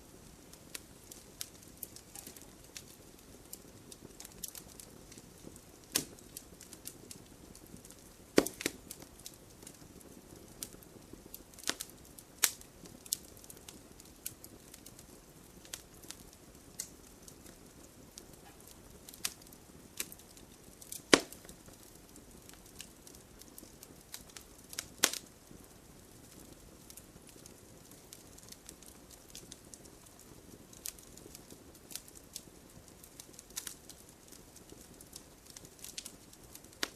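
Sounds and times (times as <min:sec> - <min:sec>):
fire crackling and popping: 0:00.0 - 0:36.9
soft steady hiss of fire: 0:00.0 - 0:36.9.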